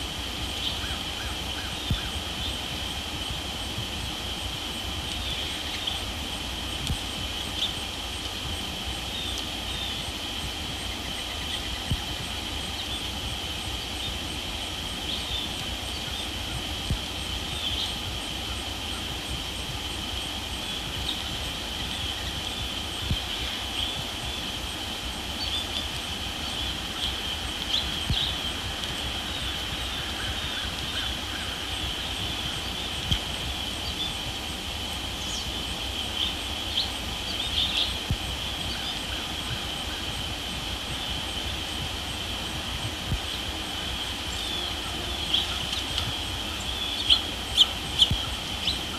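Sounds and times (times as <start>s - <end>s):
high-pitched drone: 0.0s - 48.9s.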